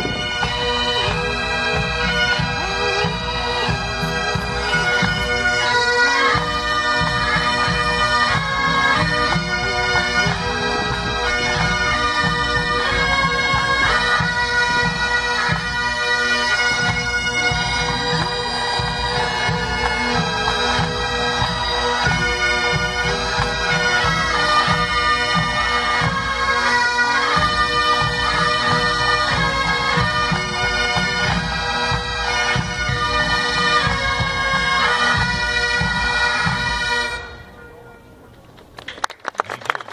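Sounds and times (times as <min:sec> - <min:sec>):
pipe bands playing bagpipes: 0:00.0 - 0:38.8.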